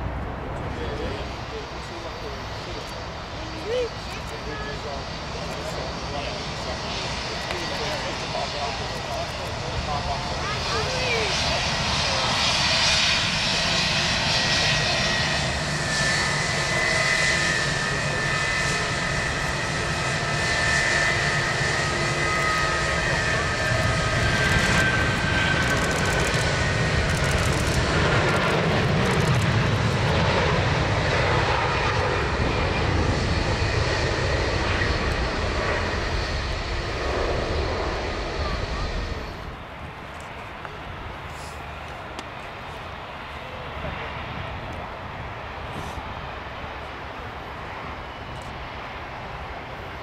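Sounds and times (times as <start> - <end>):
jet engine high whine: 0.0 - 50.0
jet engine low rumble: 0.0 - 50.0.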